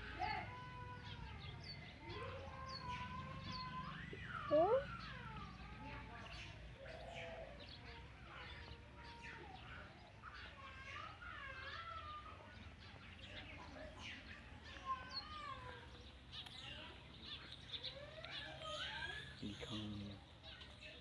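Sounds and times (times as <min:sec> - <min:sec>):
high chirping animal calls: 0:00.5 - 0:20.9.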